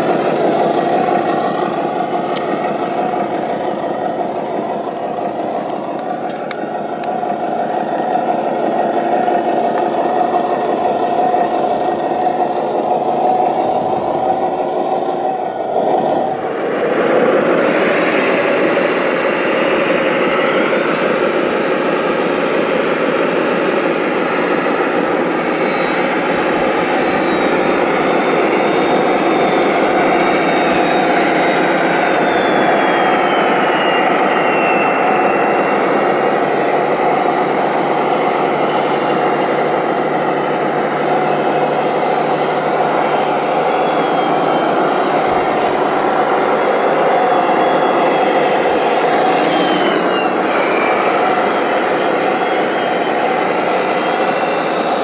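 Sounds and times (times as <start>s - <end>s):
high whine sliding down: 0.0s - 55.0s
toy vehicle motors droning: 0.0s - 55.0s.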